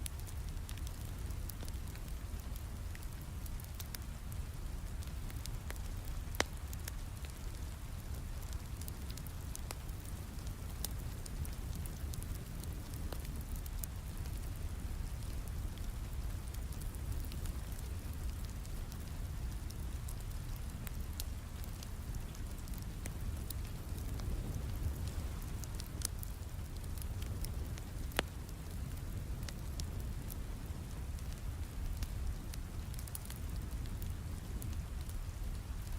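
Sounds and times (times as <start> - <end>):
steady rain: 0.0 - 35.9
wood fire crackling and popping: 0.0 - 35.9.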